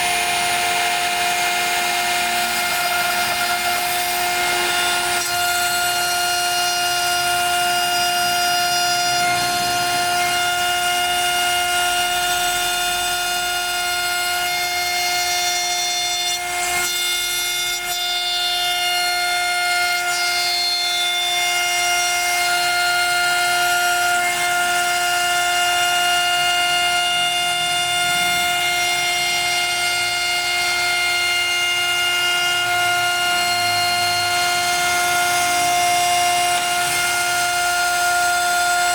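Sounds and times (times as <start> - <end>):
bit cutting through wood: 0.0 - 15.6, 19.9 - 38.9
router spindle whine: 0.0 - 38.9.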